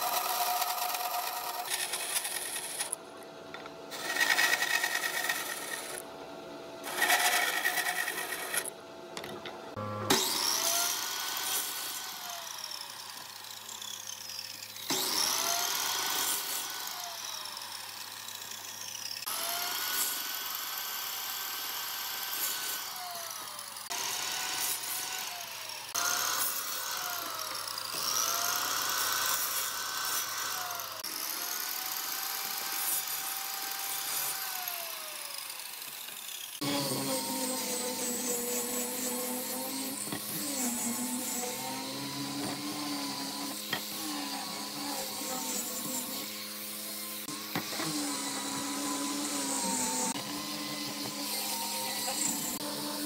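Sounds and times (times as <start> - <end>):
bandsaw cutting wood: 0.0 - 3.0, 3.9 - 6.1, 6.8 - 8.8, 9.7 - 53.0
miter saw cutting wood: 0.0 - 3.0, 3.9 - 6.1, 6.8 - 8.8, 9.7 - 53.0.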